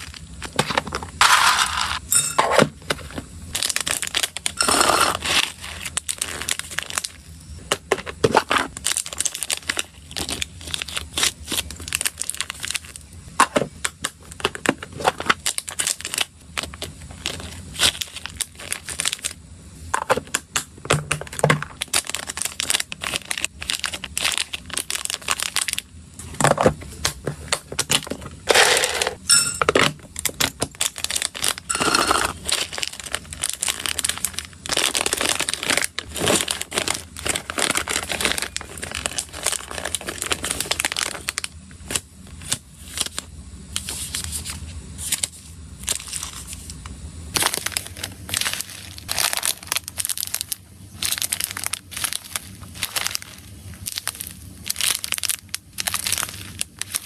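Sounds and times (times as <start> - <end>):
plastic bags crinkling: 3.0 - 13.1, 14.2 - 19.4, 21.0 - 25.9, 27.5 - 46.7, 47.3 - 57.0.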